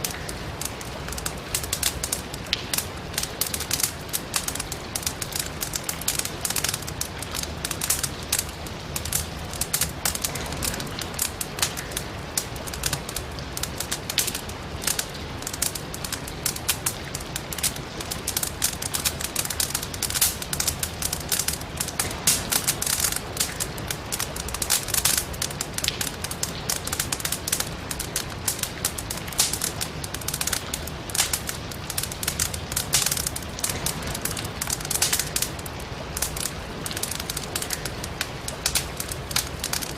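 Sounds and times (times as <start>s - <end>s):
fire crackling and popping: 0.0s - 39.9s
rain hiss: 0.0s - 39.9s.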